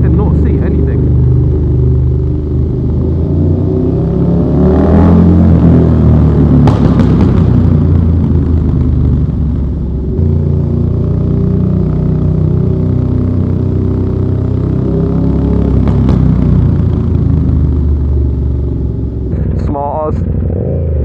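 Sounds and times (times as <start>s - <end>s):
exhaust cracks: 0.0s - 21.0s
motorcycle engine revving: 0.0s - 21.0s.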